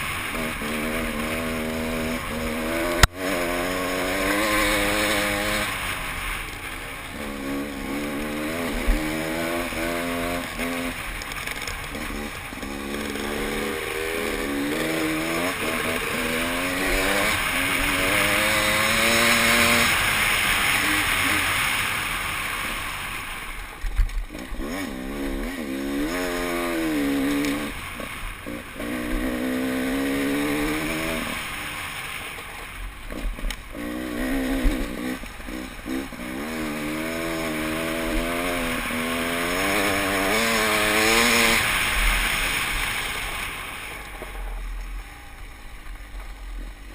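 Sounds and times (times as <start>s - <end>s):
dirt bike engine revving: 0.0s - 23.1s, 24.2s - 32.1s, 33.1s - 43.6s.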